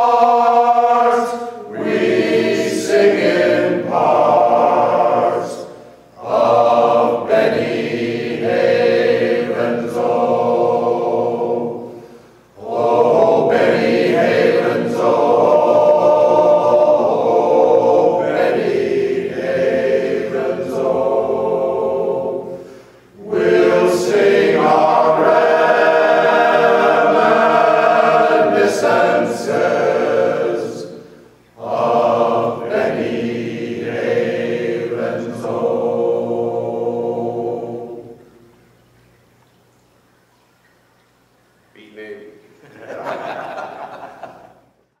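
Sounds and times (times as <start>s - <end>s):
male choir singing: 0.0s - 38.2s.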